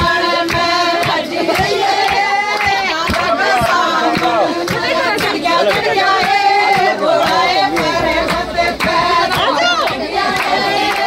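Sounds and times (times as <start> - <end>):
hands clapping: 0.0 - 11.0
women singing together: 0.0 - 11.0.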